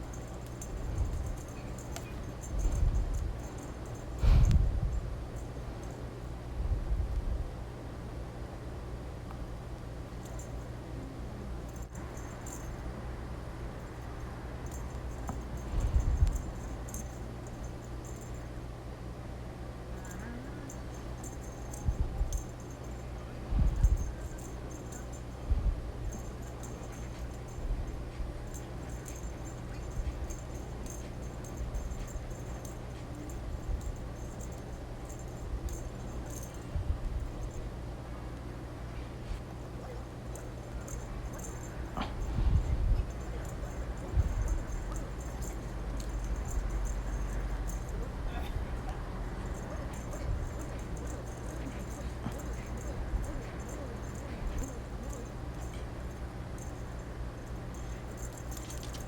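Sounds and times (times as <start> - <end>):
cat toy jingling and rattling: 0.0 - 6.0, 11.7 - 13.0, 13.6 - 18.6, 20.0 - 37.7, 39.5 - 59.0
steady low hum: 0.0 - 59.0.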